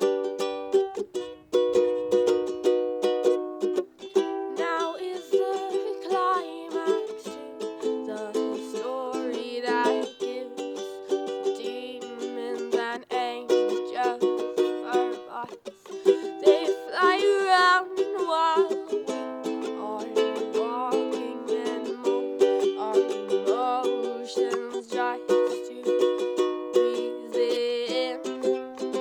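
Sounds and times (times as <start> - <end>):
ukulele chords: 0.0 - 29.0.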